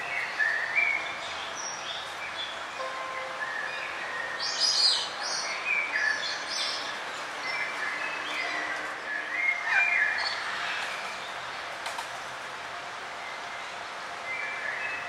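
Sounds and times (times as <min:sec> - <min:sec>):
songbirds chirping and trilling: 0:00.0 - 0:15.0
steady background hiss: 0:00.0 - 0:15.0.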